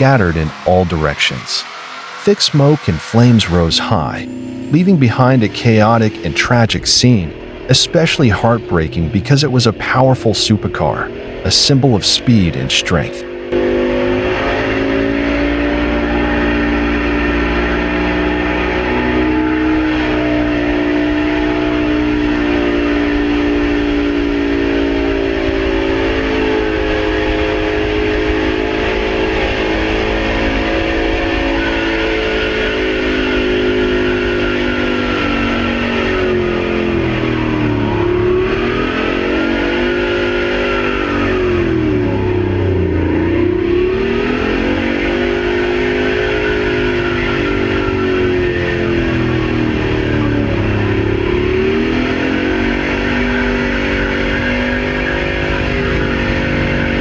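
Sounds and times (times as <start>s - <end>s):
engine whining at high speed: 0.0s - 57.0s.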